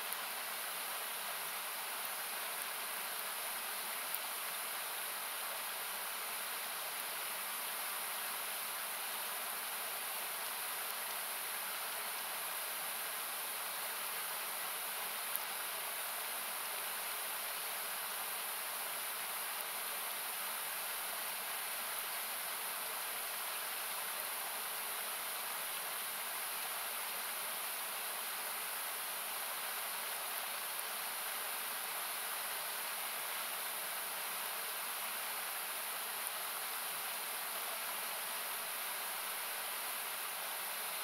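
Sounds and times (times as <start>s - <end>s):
river rushing: 0.0s - 41.0s.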